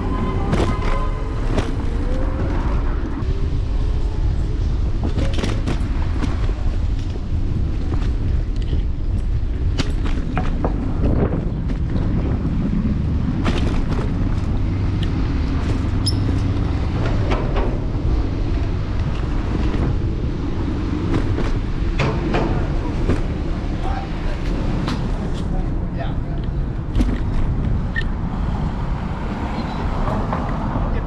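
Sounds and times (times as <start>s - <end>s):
wind and road rumble: 0.0s - 31.0s.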